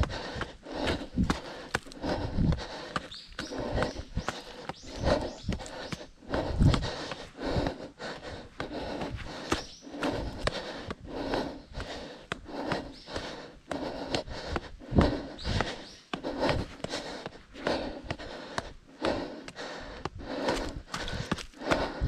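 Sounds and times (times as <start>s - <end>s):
person breathing hard: 0.0s - 22.0s.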